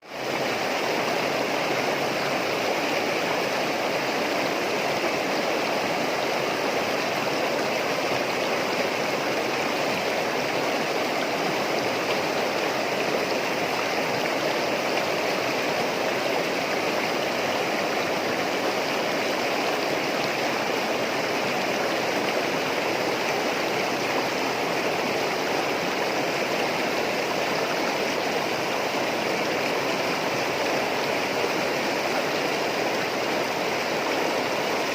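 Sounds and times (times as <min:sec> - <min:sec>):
running water babbling: 0:00.0 - 0:34.9.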